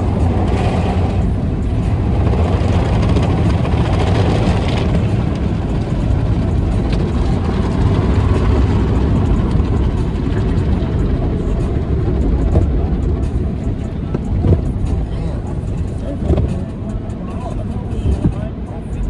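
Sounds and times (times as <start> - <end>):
car cabin engine and road noise: 0.0 - 19.0.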